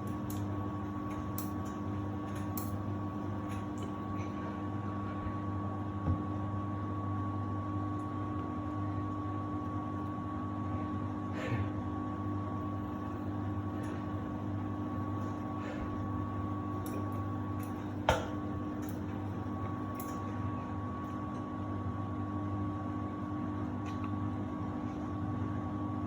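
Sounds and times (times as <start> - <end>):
washer dryer motor hum: 0.0 - 26.0.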